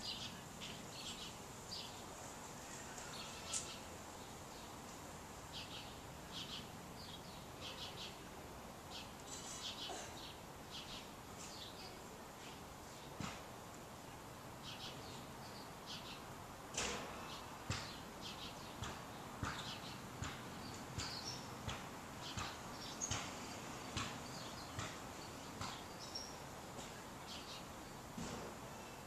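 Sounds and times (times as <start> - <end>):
faint background noise: 0.0 - 29.0
small birds chirping: 0.0 - 29.0.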